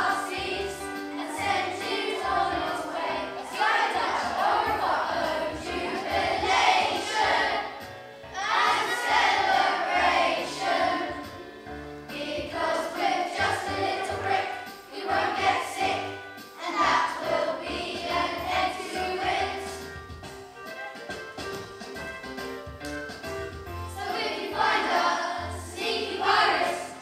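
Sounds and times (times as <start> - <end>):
children's choir singing: 0.0 - 20.0, 23.9 - 27.0
low musical accompaniment: 0.0 - 27.0.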